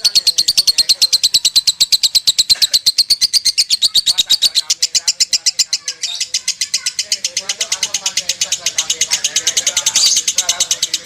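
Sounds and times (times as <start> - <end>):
lovebird chirping: 0.0 - 11.0.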